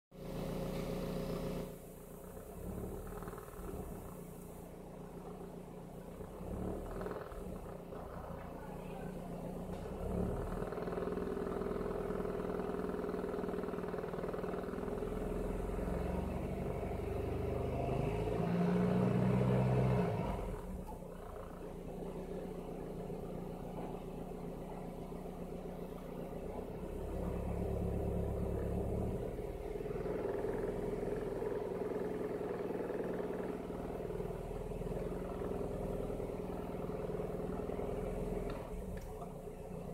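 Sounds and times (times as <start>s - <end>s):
engine running with fast pulsing: 0.2s - 39.9s.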